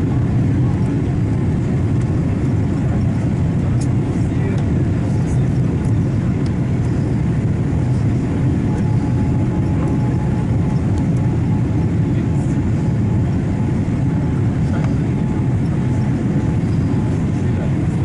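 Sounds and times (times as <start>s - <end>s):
airplane cabin engine rumble: 0.0s - 18.0s
faint steady whine: 0.0s - 18.0s.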